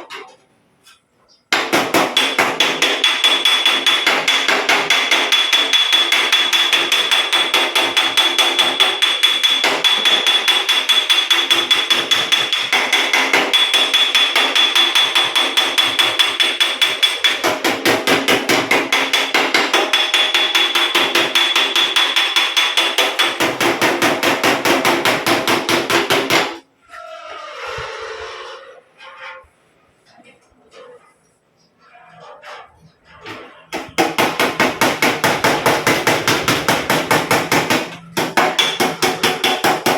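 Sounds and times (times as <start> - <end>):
hammer striking metal panel: 1.5 - 26.6, 32.5 - 39.9.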